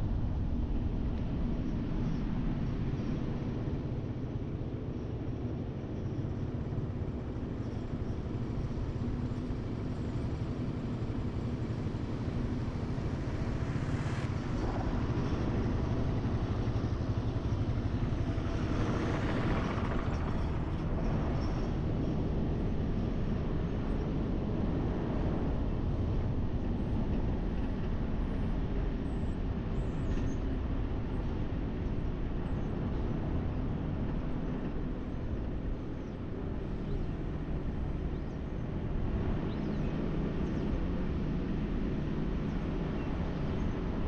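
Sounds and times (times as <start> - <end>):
vehicle engine hum: 0.0 - 44.0
road noise: 6.8 - 44.0.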